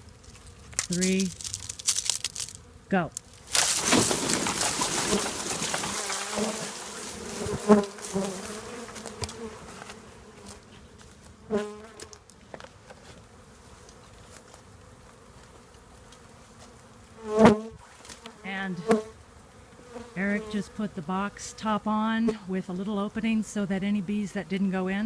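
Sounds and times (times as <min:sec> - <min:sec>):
bee swarm buzzing: 0:00.0 - 0:25.0
bees buzzing past: 0:02.2 - 0:22.6.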